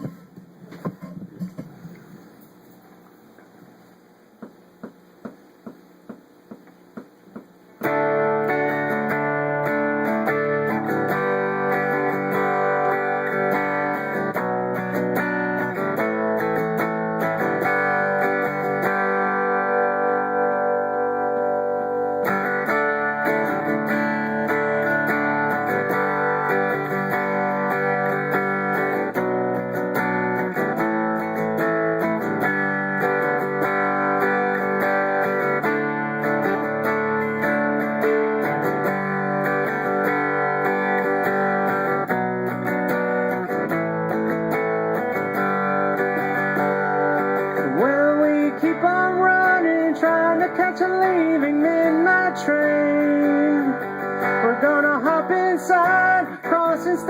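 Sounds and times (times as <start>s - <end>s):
instrumental guitar music: 4.4s - 57.0s.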